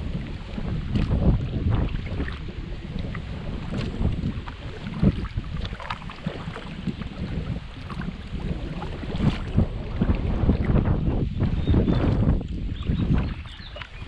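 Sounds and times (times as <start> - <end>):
kayak paddle splashing in water: 0.0 - 14.0
wind rumbling on microphone: 0.0 - 14.0.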